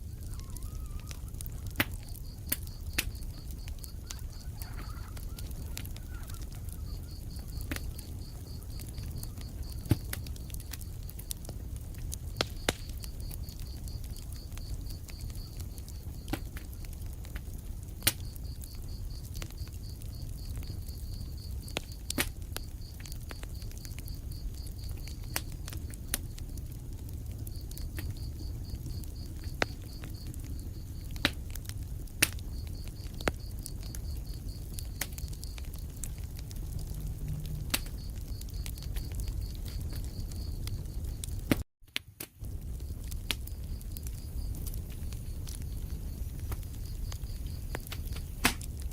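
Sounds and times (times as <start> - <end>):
fire crackling and popping: 0.0 - 48.9
low rumble of flames: 0.0 - 48.9.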